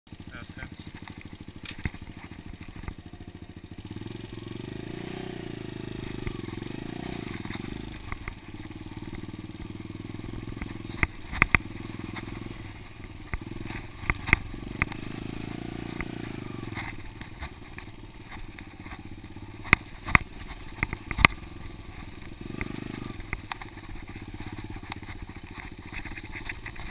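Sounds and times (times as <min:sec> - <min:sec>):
dirt bike engine revving: 0:00.1 - 0:26.9
bike knocks and rattles: 0:00.2 - 0:26.9.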